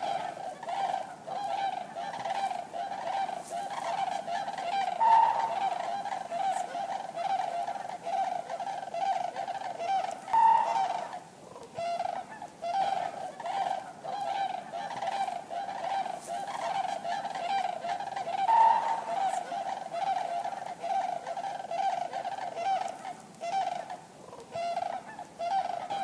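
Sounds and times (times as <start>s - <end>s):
cranes honking calls: 0.0s - 26.0s.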